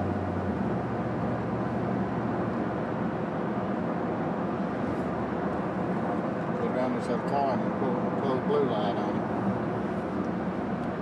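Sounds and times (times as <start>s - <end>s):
vehicle cabin road noise: 0.0s - 11.0s.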